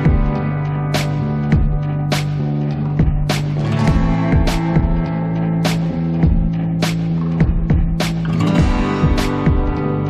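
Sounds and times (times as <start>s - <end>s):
background music with steady beat: 0.0s - 10.0s
plucked guitar-like notes: 0.0s - 10.0s.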